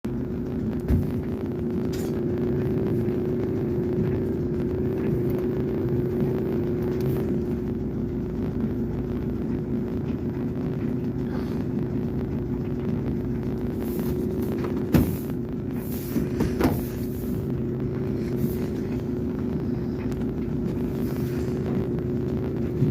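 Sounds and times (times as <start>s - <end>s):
clothes dryer droning: 0.0s - 22.9s.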